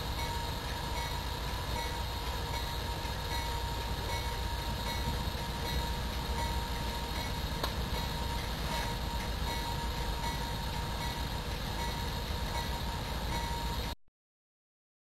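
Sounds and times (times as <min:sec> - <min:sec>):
diesel locomotive idling: 0:00.0 - 0:14.0
thin steady tone: 0:00.0 - 0:14.0.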